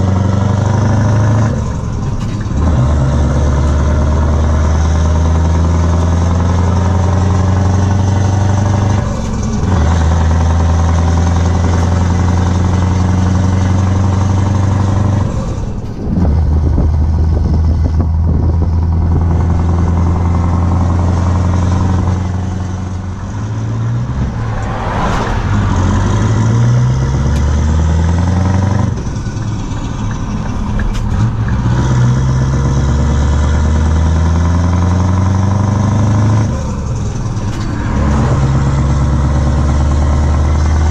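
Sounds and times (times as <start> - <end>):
diesel truck engine under load: 0.0 - 40.9.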